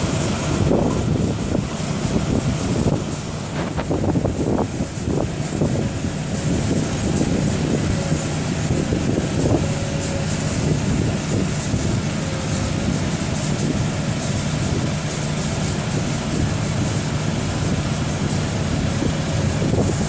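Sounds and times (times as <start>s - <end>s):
diesel machinery running: 0.0s - 20.0s.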